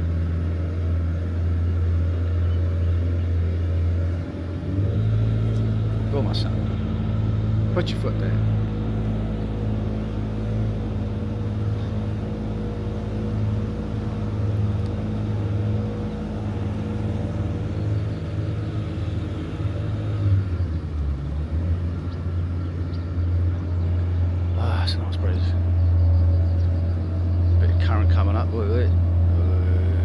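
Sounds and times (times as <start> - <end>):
motorboat engine droning: 0.0 - 30.0.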